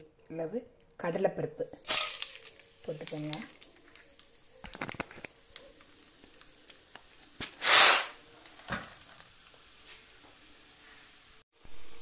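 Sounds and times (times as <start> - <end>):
lentils sizzling in oil: 1.7 - 12.0.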